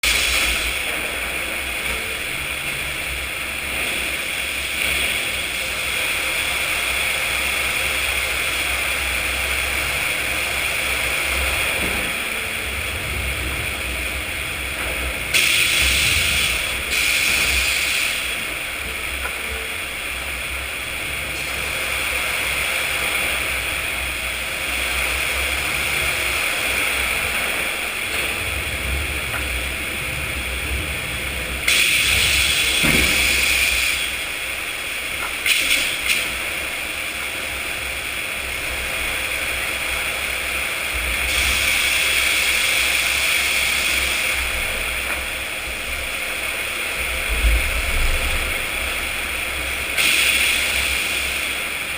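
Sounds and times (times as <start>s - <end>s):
sawmill machinery rumbling and hissing: 0.0s - 51.9s.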